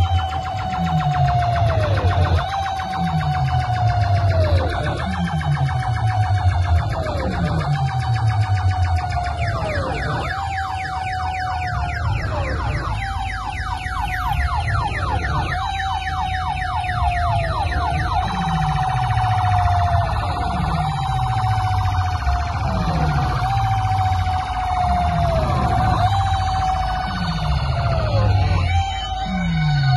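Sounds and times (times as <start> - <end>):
electronic dance track: 0.0 - 29.9
high wailing tone: 0.0 - 29.9.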